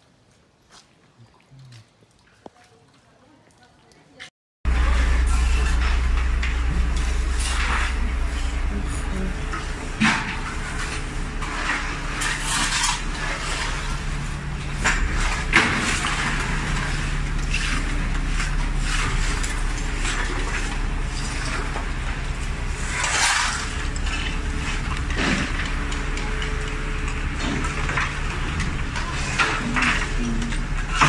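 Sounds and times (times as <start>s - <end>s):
debris knocking and clattering: 4.7s - 31.0s.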